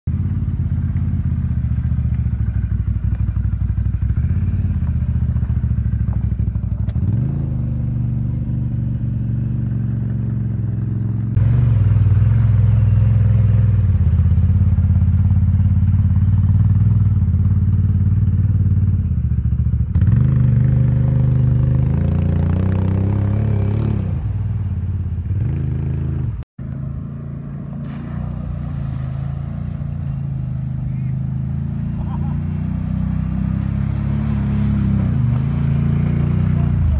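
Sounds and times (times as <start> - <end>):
vehicle splashing through water: 0.1 - 18.2, 19.9 - 26.1, 26.8 - 36.9
quad engine revving: 0.1 - 19.2, 19.8 - 24.6, 27.1 - 36.9.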